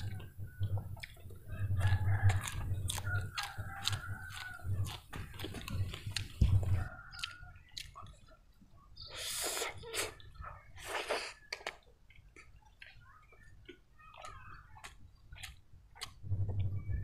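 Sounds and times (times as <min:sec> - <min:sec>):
person chewing: 0:00.0 - 0:16.9.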